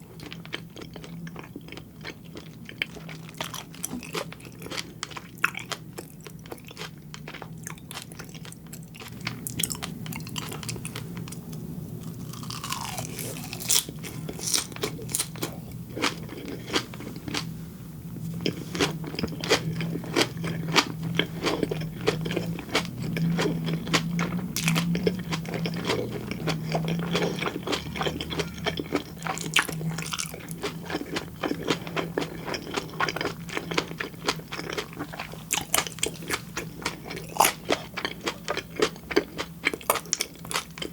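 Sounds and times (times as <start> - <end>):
wet chewing with small crunches: 0.0 - 17.5, 18.2 - 40.9
low steady hum: 0.0 - 40.9.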